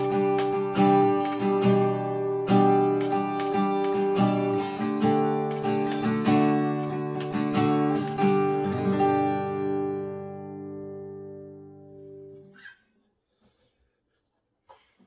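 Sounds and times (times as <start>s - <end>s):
acoustic guitar fingerpicked chords: 0.0s - 12.6s.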